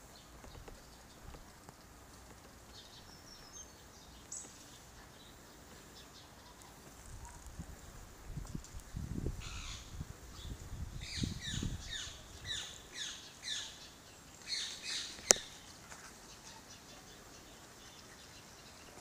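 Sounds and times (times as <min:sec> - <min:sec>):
bird chirping: 0:00.0 - 0:07.5, 0:09.4 - 0:19.0.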